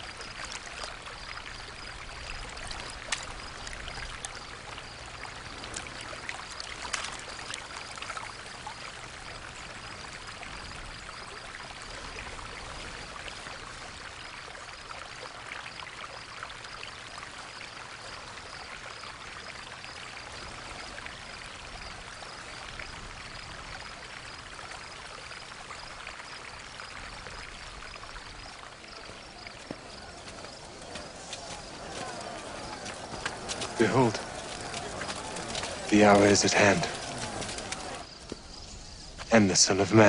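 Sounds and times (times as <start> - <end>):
stream trickling over rocks: 0.0 - 40.0.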